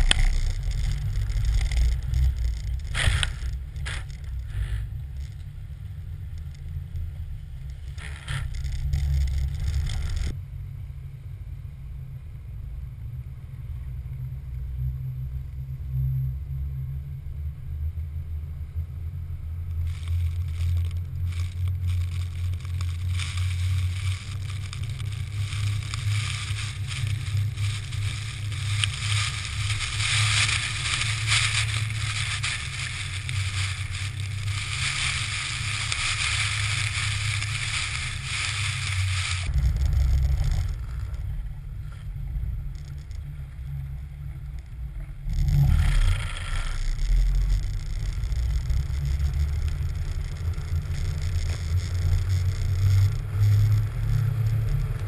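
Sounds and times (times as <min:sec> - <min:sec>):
tracked truck rumbling: 0:00.0 - 0:55.0.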